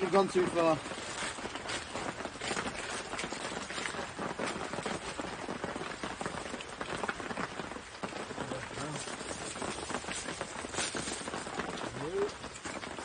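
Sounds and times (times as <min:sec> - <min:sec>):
campfire crackling: 0:00.0 - 0:13.0
patties sizzling on grill: 0:00.0 - 0:13.0.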